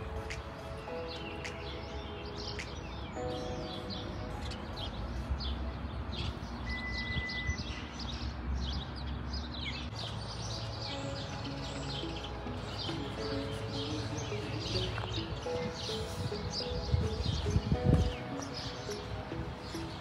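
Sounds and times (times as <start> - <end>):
soft background music: 0.0 - 7.7, 9.9 - 20.0
songbirds chirping: 0.0 - 20.0.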